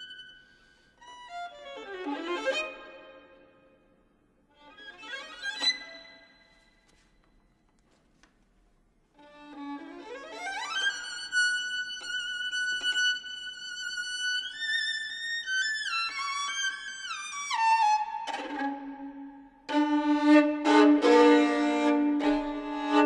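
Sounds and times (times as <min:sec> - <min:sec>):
solo violin: 0:00.0 - 0:03.8, 0:04.5 - 0:06.6, 0:09.1 - 0:23.0.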